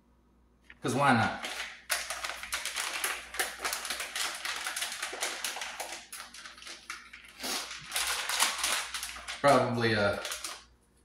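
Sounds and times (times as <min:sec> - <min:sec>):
plastic packet crinkling: 0:00.7 - 0:11.0
plastic packet tearing open: 0:01.0 - 0:10.7.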